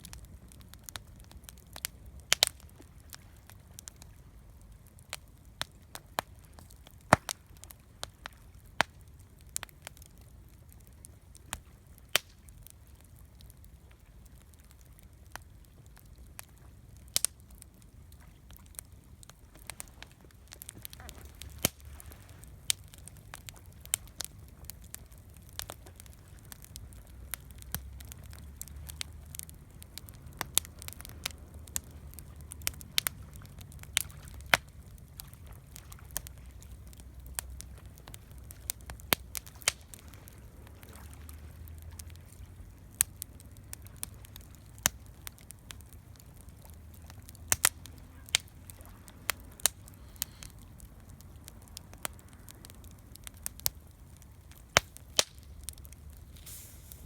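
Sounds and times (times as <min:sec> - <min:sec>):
campfire crackling and popping: 0:00.0 - 0:57.0
low steady rumble: 0:00.0 - 0:57.0.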